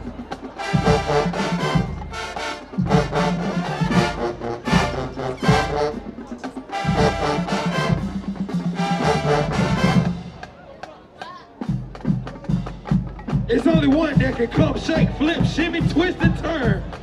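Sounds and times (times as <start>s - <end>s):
marching band brass playing: 0.0s - 10.8s, 11.6s - 17.0s.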